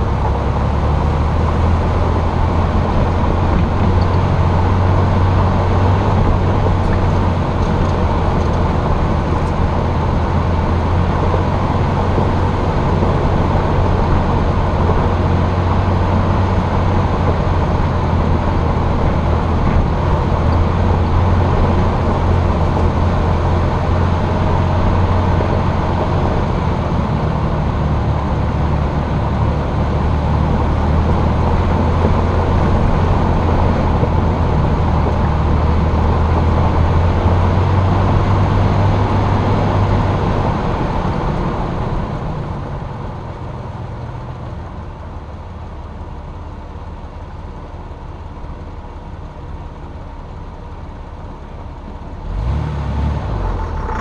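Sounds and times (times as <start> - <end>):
engine droning while driving: 0.0 - 54.0
road and wind noise: 0.0 - 54.0.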